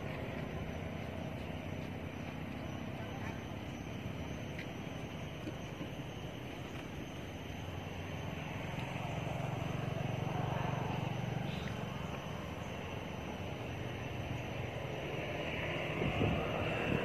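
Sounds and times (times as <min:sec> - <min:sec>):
outdoor background noise: 0:00.0 - 0:17.0
passing engine hum: 0:00.0 - 0:17.0.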